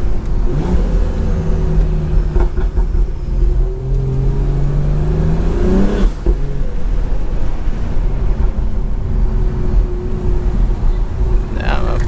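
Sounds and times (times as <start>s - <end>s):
car engine under light throttle: 0.0s - 12.0s.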